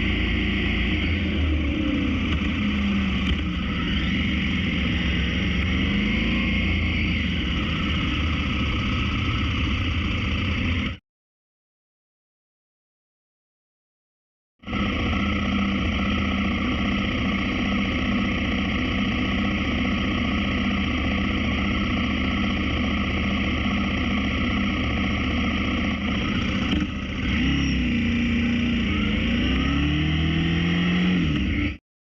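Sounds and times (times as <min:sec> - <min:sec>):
motorcycle engine running: 0:00.0 - 0:11.0, 0:14.6 - 0:31.8.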